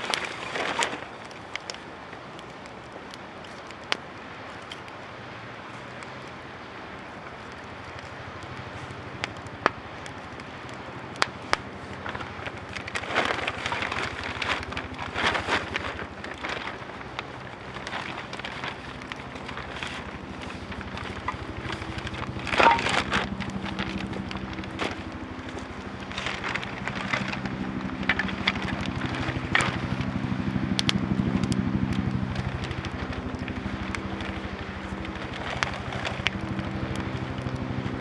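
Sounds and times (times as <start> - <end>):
campfire crackling: 0.0 - 38.0
wood popping: 5.7 - 38.0.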